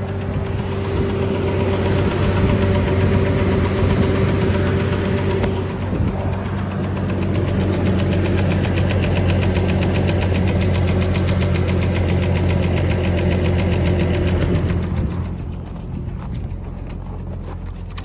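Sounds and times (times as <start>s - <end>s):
car engine running: 0.0s - 18.0s
rapid engine knock: 0.0s - 18.0s.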